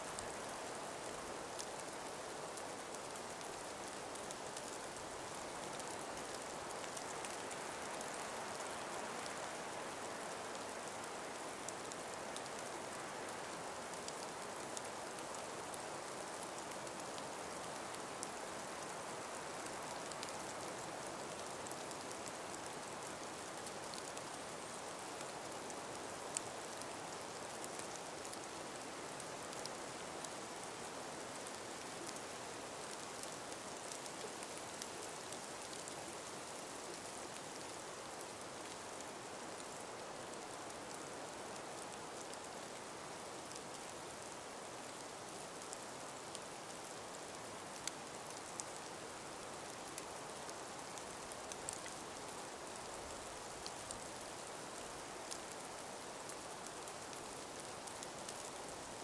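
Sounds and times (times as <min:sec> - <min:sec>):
breeze through snowy forest: 0:00.0 - 0:59.0
faint light ticks and patters: 0:00.0 - 0:59.0.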